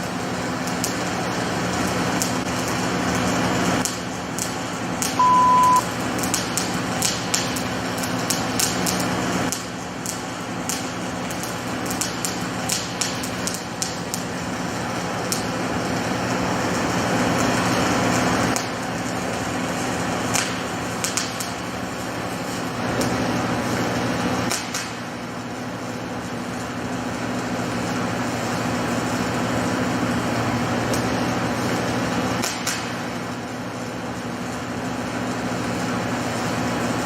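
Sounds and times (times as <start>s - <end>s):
welding crackles and clicks: 0.0s - 37.0s
welding machine humming: 0.0s - 37.0s.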